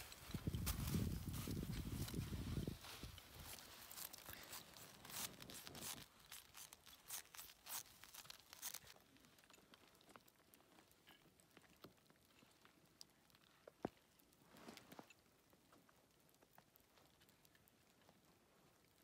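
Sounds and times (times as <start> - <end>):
faint crackles and rustles: 0.0 - 19.0.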